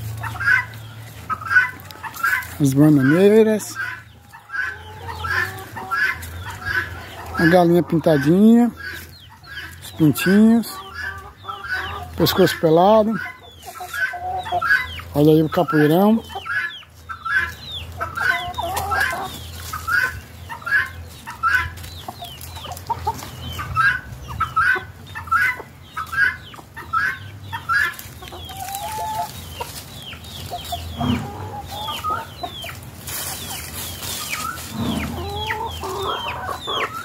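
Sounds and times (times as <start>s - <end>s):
chickens clucking and calling: 0.0s - 37.0s.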